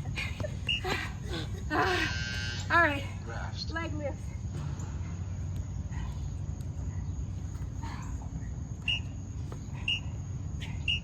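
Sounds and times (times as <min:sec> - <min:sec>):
high insect-like hum: 0:00.0 - 0:11.0.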